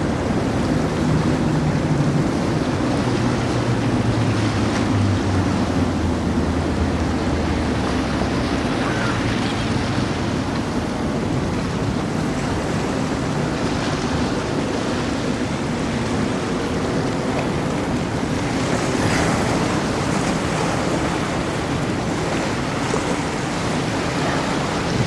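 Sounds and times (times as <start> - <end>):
boat engine rumble: 0.0 - 25.0
waves and water wash: 0.0 - 25.0
wind buffeting microphone: 0.0 - 25.0.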